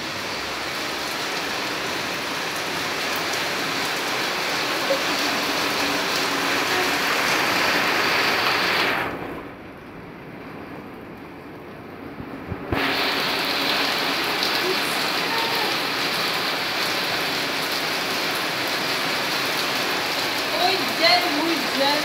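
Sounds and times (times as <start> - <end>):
rain pouring: 0.0 - 22.0.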